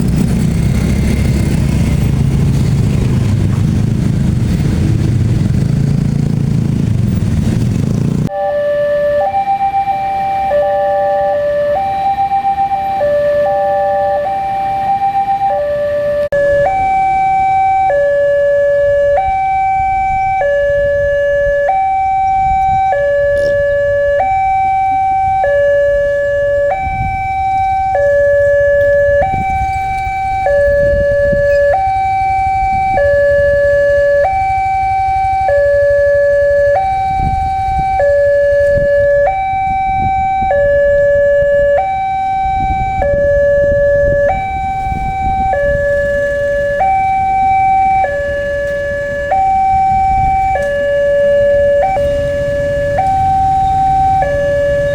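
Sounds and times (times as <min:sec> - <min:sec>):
low engine rumble: 0:00.0 - 0:08.3, 0:16.2 - 0:54.9
two-tone crossing alarm: 0:00.0 - 0:54.9.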